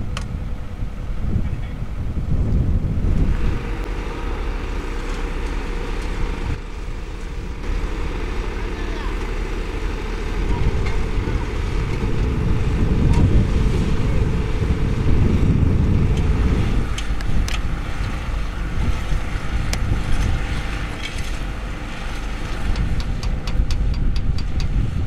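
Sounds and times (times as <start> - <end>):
diesel machinery rumbling: 0.0 - 25.0
engine hum: 0.0 - 25.0.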